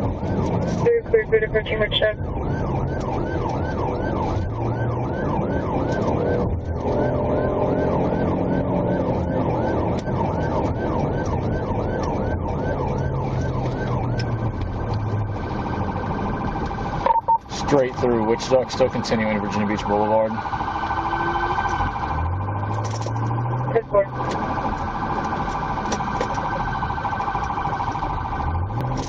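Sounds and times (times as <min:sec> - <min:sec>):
car engine and road noise: 0:00.0 - 0:29.0
police siren: 0:00.0 - 0:29.0.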